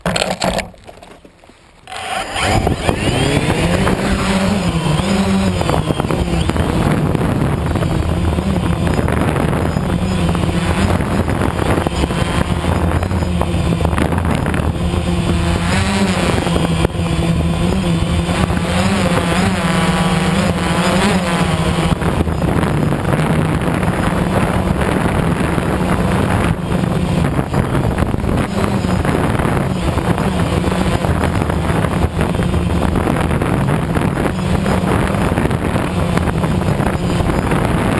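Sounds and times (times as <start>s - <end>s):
engine running: 0.0s - 37.9s.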